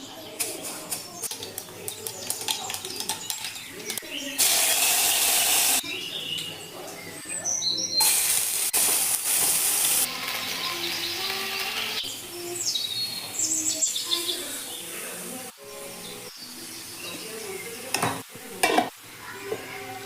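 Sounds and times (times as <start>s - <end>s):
birds chirping: 0.0s - 8.2s, 9.9s - 18.2s
food sizzling in a frying pan: 0.3s - 5.8s, 8.0s - 20.0s.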